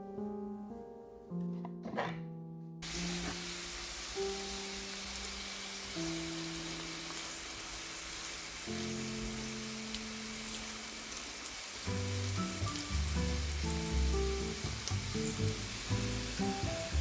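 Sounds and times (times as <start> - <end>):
background music: 0.0 - 11.0, 11.8 - 17.0
food sizzling in a pan: 2.8 - 17.0.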